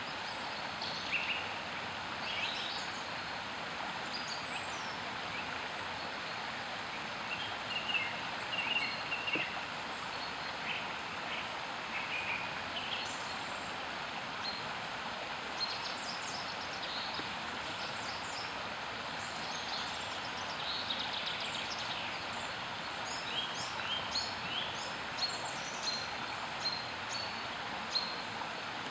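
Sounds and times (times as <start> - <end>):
stream rushing over stones: 0.0 - 28.9.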